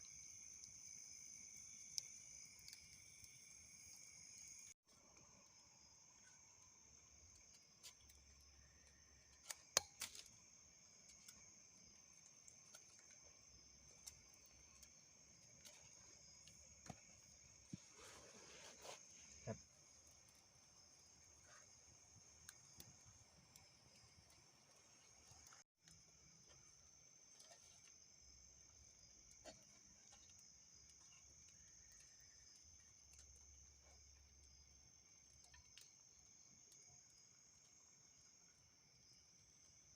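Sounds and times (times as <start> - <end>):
crickets and night insects chirring: 0.0 - 39.9.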